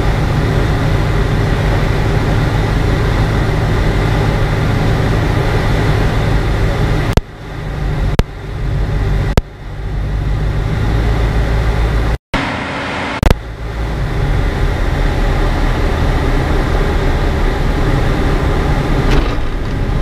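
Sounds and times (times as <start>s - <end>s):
aircraft engine and propeller: 0.0s - 20.0s.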